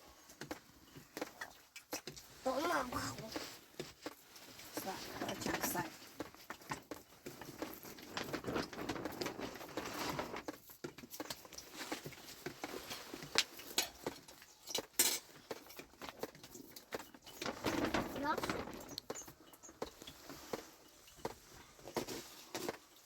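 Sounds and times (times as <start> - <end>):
objects rustling and clinking: 0.0 - 23.0.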